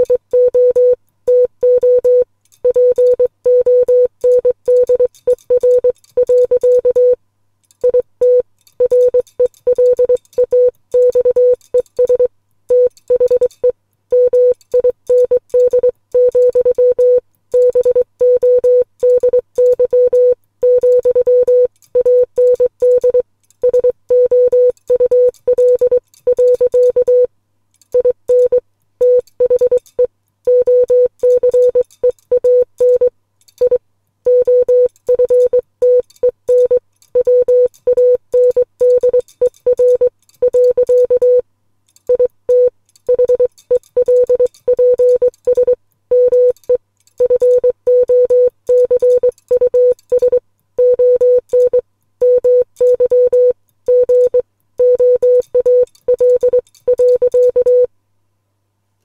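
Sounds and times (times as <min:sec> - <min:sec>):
morse code beeps: 0:00.0 - 0:07.2, 0:07.8 - 0:27.3, 0:28.0 - 0:41.4, 0:42.1 - 0:57.9.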